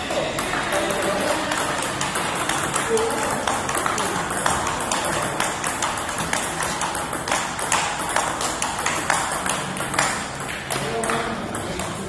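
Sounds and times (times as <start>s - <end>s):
table tennis ball bouncing on table: 0.0s - 12.0s
table tennis ball hitting bats: 0.0s - 12.0s.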